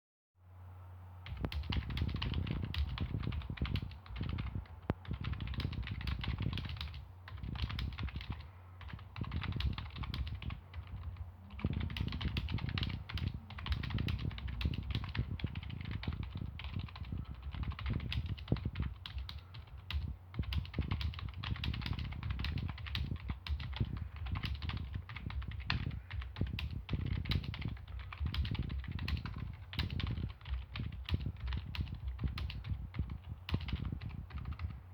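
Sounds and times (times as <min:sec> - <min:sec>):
keyboard typing: 0:01.2 - 0:34.9.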